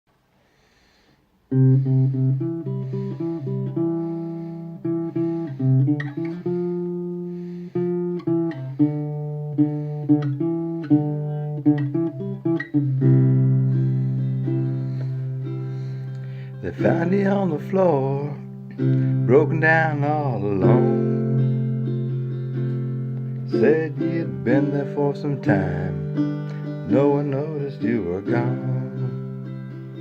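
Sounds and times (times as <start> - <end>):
acoustic guitar country intro: 1.5 - 30.0.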